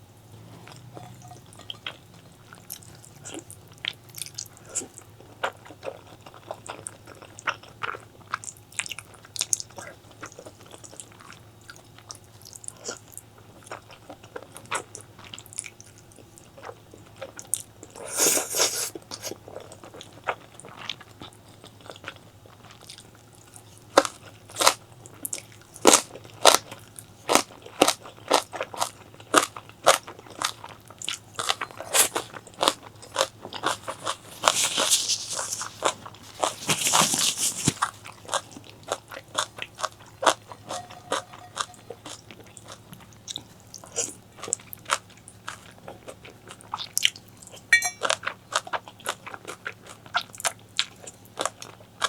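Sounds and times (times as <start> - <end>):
person chewing crunchy food: 0.5 - 15.8, 24.0 - 52.0.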